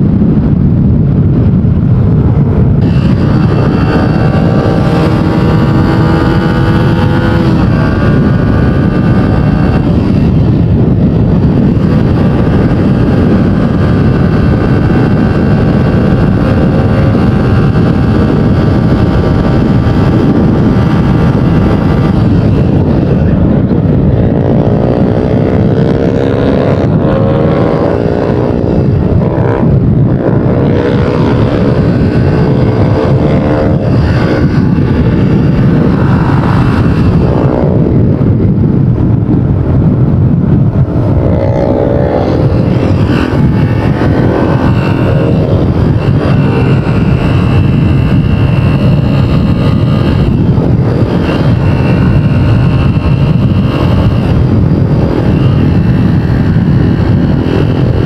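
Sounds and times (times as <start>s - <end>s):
motorcycle engine running: 0.0s - 58.0s
road noise: 0.0s - 58.0s
wind noise: 0.0s - 58.0s.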